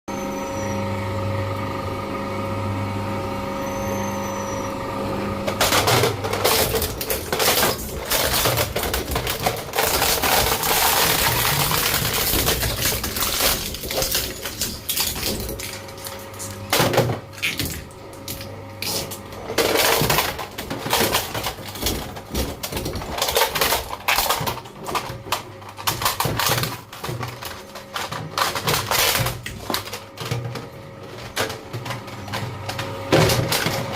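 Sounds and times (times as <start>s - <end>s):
shredder motor humming: 0.1s - 33.9s
plastic cracking and crunching: 5.5s - 33.9s.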